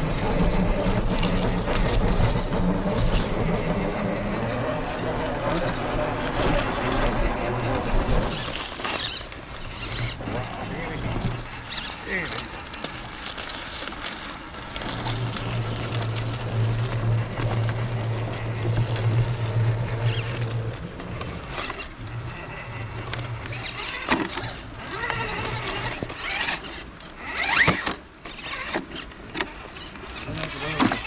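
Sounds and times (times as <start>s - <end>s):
electric motor humming: 0.0s - 13.5s, 14.4s - 31.0s
clicks and scrapes on terrain: 0.5s - 31.0s.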